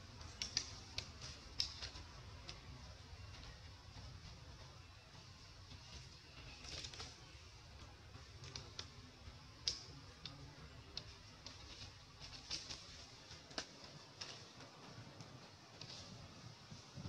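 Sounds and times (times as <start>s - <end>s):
faint irregular clicks and ticks: 0.0s - 17.0s.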